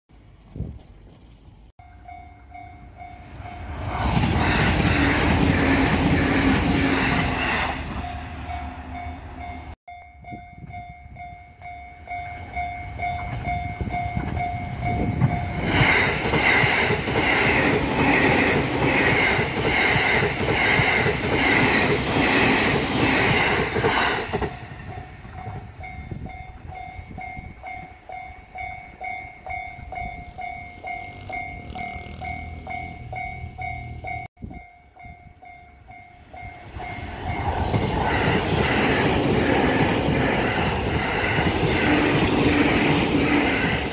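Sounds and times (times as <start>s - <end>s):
train passing: 1.4s - 43.9s
level-crossing warning bell ringing: 1.8s - 23.4s, 24.4s - 43.9s.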